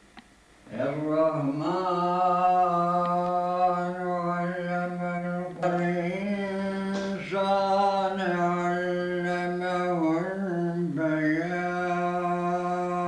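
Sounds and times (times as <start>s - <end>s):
man chanting recitation: 0.7s - 13.0s.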